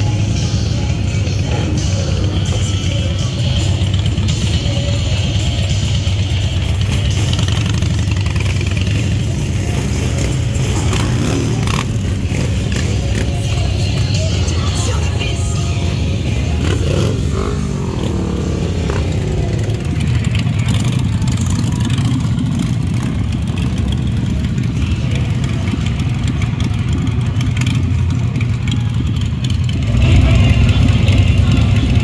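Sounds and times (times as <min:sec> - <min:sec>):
motorcycle engine revving: 0:00.0 - 0:32.0
motorcycle engines rumbling: 0:00.0 - 0:32.0.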